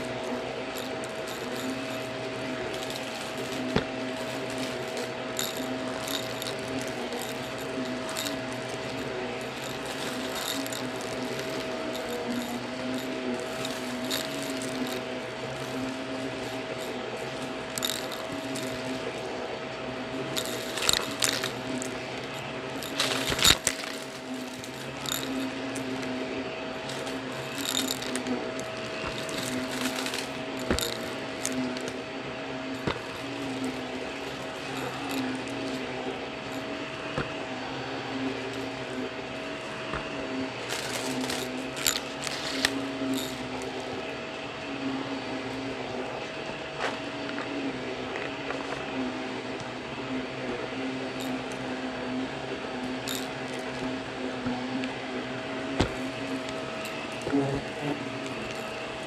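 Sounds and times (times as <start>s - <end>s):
vacuum cleaner motor humming: 0.0s - 59.0s.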